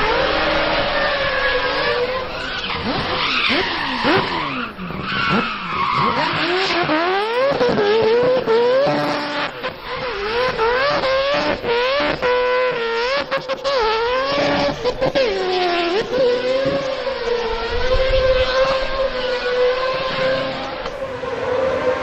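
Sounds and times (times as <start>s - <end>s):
rotary engine revving hard: 0.0s - 22.0s.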